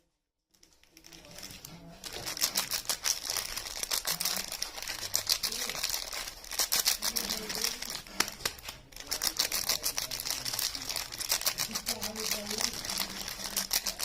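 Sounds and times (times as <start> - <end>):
wrapper crinkling: 0.5 - 14.0.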